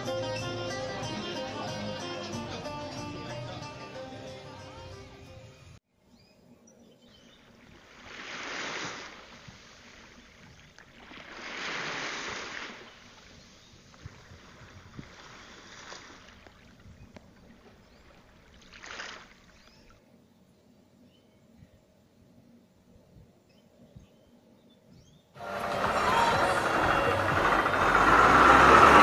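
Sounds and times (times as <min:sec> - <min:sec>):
rushes of outdoor noise: 0:04.4 - 0:29.0.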